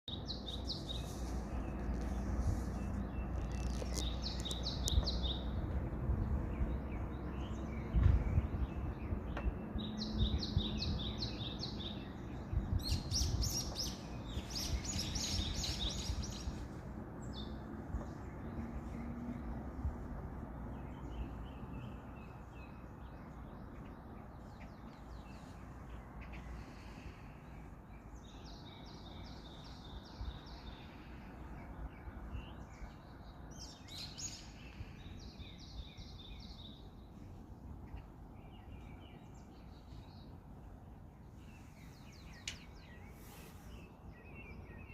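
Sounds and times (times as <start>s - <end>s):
songbirds calling and singing: 0.1s - 44.9s.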